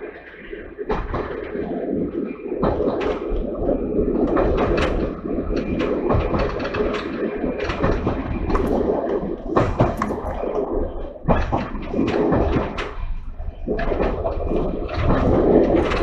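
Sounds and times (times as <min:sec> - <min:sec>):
clattering and rattling knocks: 0:02.6 - 0:16.0.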